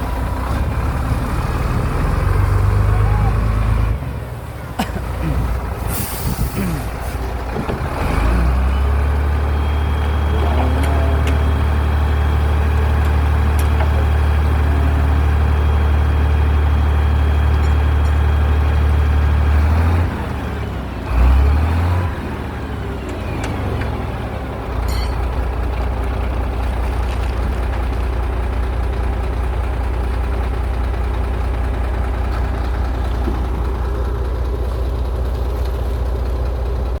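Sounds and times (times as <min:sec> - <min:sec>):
heavy diesel machinery engine drone: 0:00.0 - 0:37.0.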